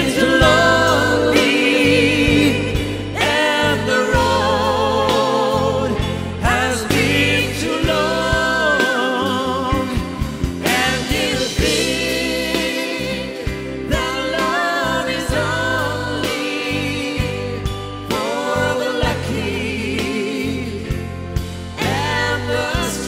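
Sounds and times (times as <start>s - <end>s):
live band playing ballad: 0.0s - 23.0s.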